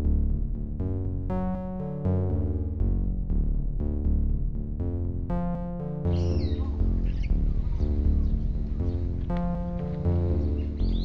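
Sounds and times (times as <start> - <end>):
low bass notes: 0.0 - 11.0.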